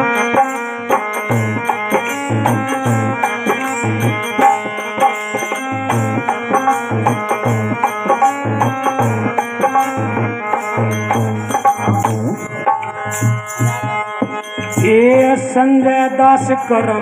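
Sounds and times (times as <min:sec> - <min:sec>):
held melody notes: 0:00.0 - 0:17.0
steady drum beat: 0:00.0 - 0:17.0
wooden clappers with jingles: 0:00.2 - 0:15.7.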